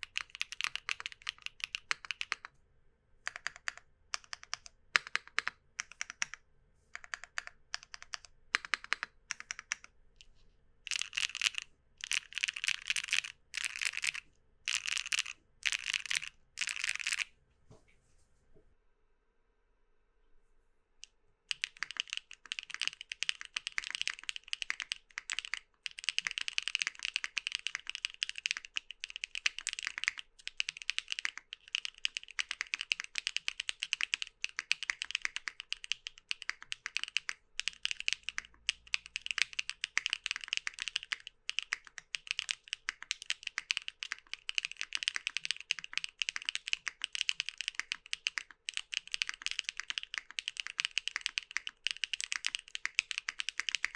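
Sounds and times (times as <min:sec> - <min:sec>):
fast typing on mechanical keyboard: 0:00.0 - 0:02.5, 0:03.2 - 0:06.4, 0:07.0 - 0:09.9, 0:10.9 - 0:17.3, 0:21.5 - 0:53.9.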